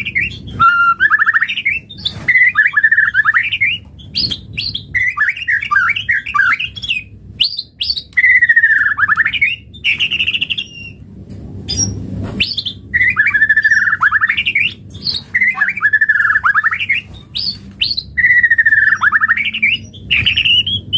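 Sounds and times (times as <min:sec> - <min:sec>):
bird singing whistles and trills: 0:00.0 - 0:11.0, 0:11.7 - 0:20.9.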